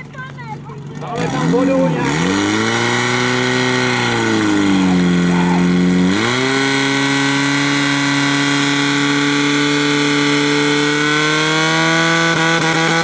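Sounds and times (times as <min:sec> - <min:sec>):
pump engine running hard: 0:00.8 - 0:13.0.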